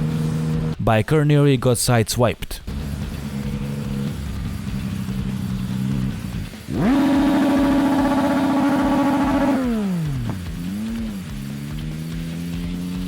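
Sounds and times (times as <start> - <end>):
motorcycle engine revving: 0.0 - 0.8, 2.7 - 13.0.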